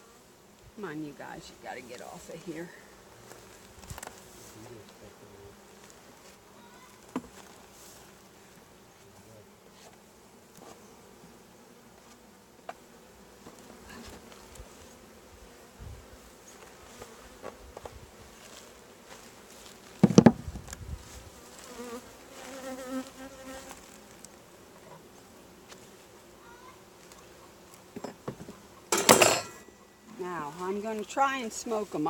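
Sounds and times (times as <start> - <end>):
honeybees buzzing: 0.0 - 32.0.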